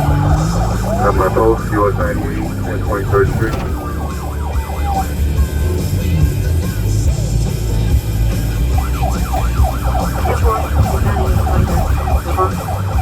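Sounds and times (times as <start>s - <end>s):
emergency siren yelping: 0.0s - 6.3s, 8.6s - 13.0s
low rumble of vehicle noise: 0.0s - 13.0s.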